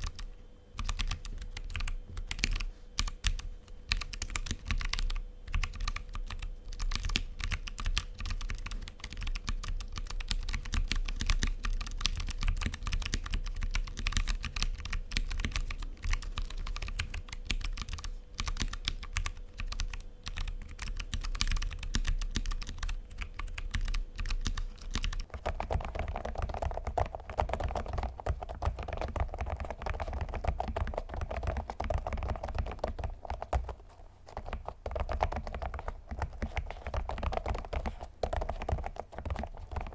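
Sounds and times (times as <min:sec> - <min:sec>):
mechanical keyboard typing: 0:00.0 - 0:33.8, 0:34.4 - 0:39.9.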